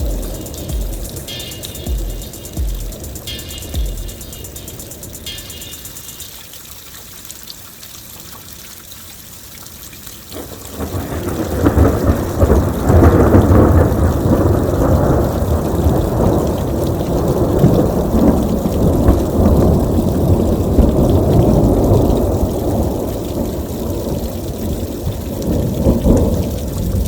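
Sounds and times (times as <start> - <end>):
thunder rumbling: 0.0 - 5.4, 10.4 - 27.0
rain falling: 0.0 - 27.0.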